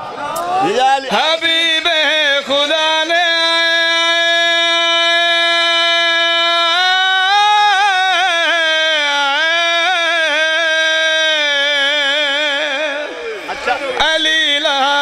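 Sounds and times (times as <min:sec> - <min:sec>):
man singing long note: 0:00.5 - 0:15.0.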